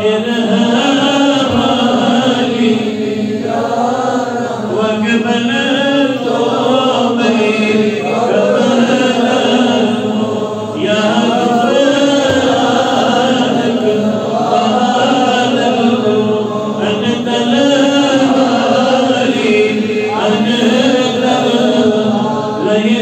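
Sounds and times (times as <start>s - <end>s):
man chanting into microphone: 0.0s - 23.0s.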